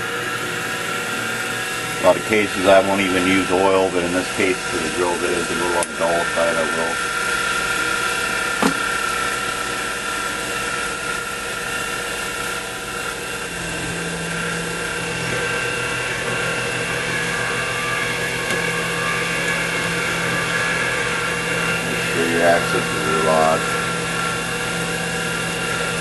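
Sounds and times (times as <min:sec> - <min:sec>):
mill spindle drilling whine: 0:00.0 - 0:26.0.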